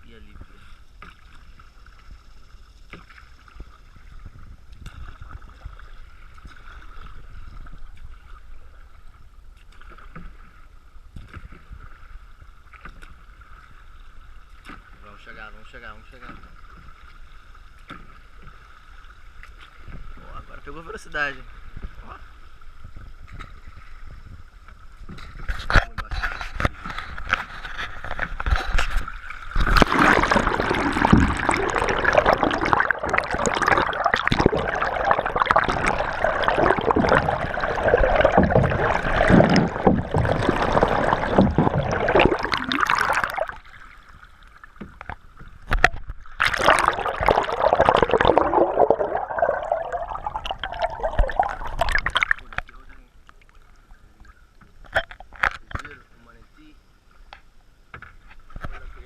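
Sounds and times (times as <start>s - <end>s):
water gurgling against canoe: 0.0s - 52.9s
canoe paddles splashing: 0.2s - 55.4s.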